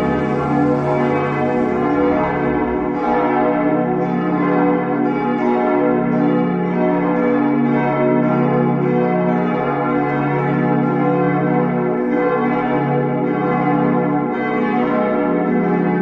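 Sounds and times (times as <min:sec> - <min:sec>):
church bells pealing: 0:00.0 - 0:16.0.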